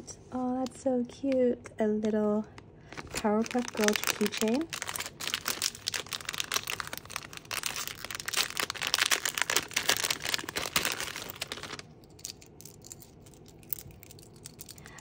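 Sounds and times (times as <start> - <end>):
packaging crinkling: 2.5 - 15.0.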